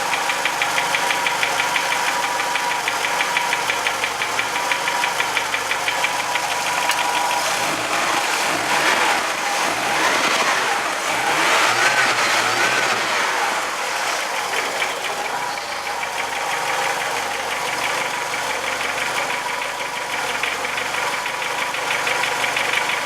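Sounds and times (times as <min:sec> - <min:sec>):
car engine knocking: 0:00.0 - 0:23.0.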